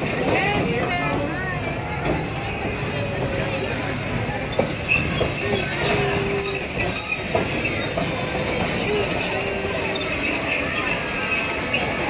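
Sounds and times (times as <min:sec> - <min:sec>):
train rumble: 0:00.0 - 0:12.0
train wheels squealing: 0:01.2 - 0:12.0.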